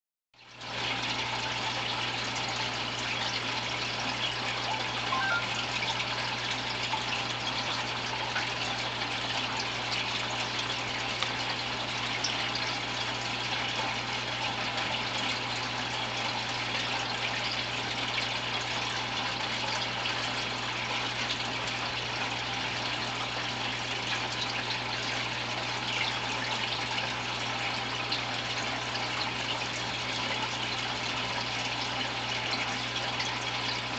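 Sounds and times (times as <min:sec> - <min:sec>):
low pump hum: 0:00.4 - 0:33.9
water trickling: 0:00.4 - 0:33.9.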